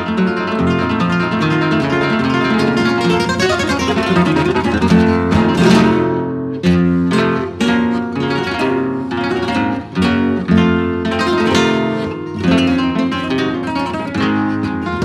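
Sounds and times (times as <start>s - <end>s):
flamenco acoustic guitar strumming: 0.0s - 15.0s.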